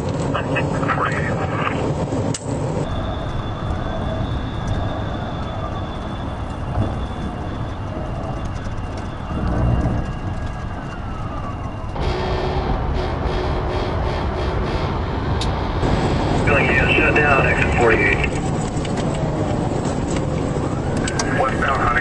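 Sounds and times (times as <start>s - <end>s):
car road and engine rumble: 0.0s - 22.0s
police siren wailing: 2.7s - 14.6s, 15.3s - 22.0s.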